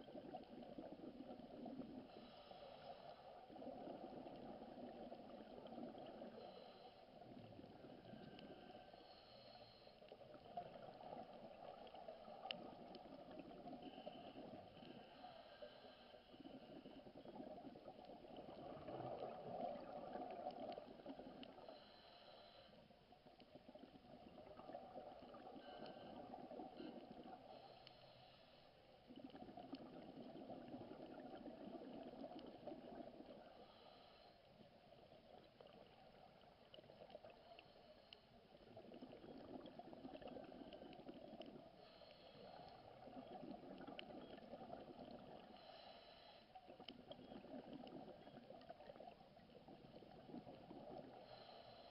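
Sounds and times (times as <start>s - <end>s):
underwater bubbles gurgling: 0.0s - 51.9s.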